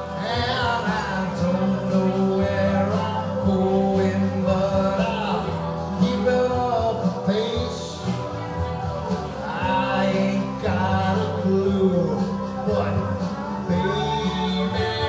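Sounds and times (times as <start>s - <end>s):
electric guitars playing rock: 0.0s - 15.0s
man singing into microphone: 0.0s - 15.0s.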